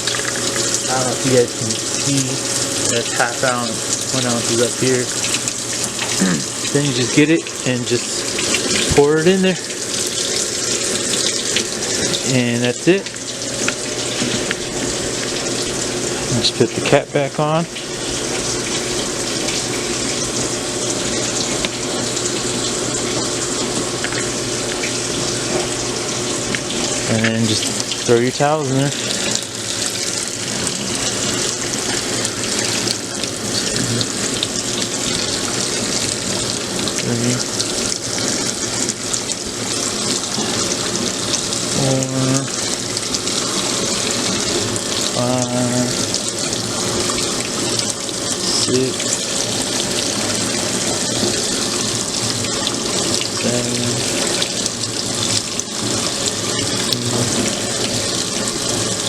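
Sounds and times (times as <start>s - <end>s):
water rushing into drum: 0.0s - 59.0s.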